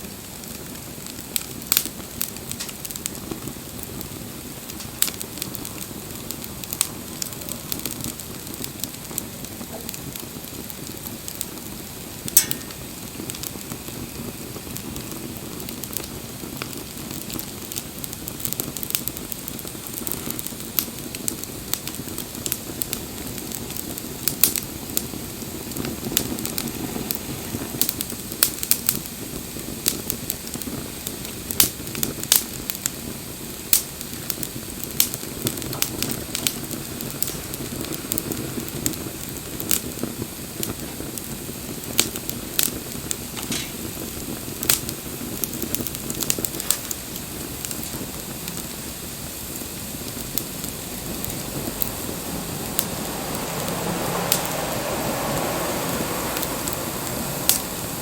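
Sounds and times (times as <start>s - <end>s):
bonfire crackling and popping: 0.0s - 58.0s
rush of burning flames: 0.0s - 58.0s.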